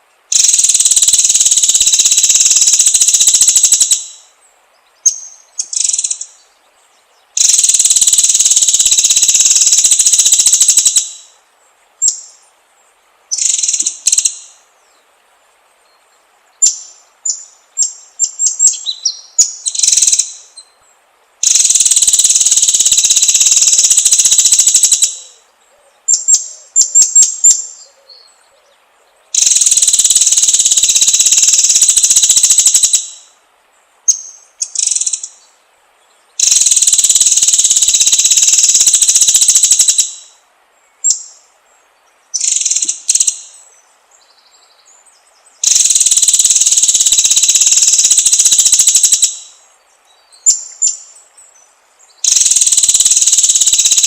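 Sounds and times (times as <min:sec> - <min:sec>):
bird song: 0:00.0 - 0:54.0.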